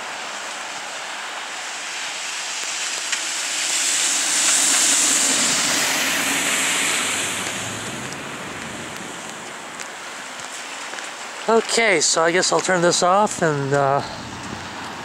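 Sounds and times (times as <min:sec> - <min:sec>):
tyre hiss on wet road: 0:00.0 - 0:15.0.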